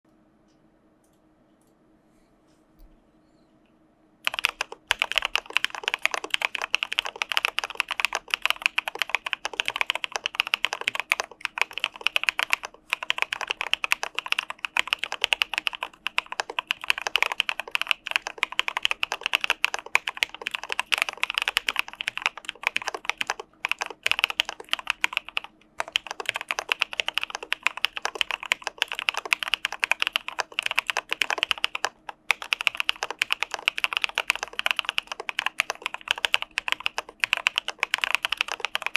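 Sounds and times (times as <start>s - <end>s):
typing on mechanical keyboard: 4.2s - 38.9s.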